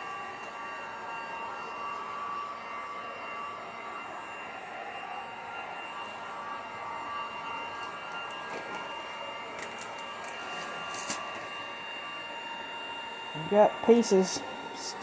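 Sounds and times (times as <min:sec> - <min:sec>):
heat gun fan whine: 0:00.0 - 0:15.0.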